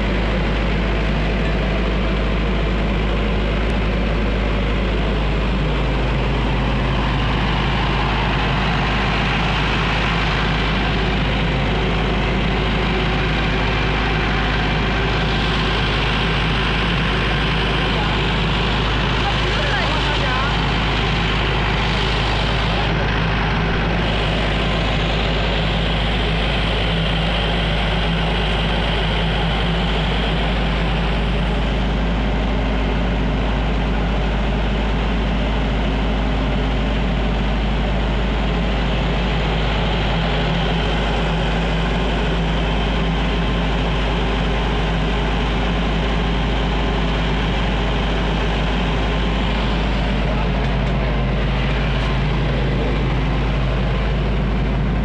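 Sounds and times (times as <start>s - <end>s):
diesel generator running: 0.0s - 55.0s.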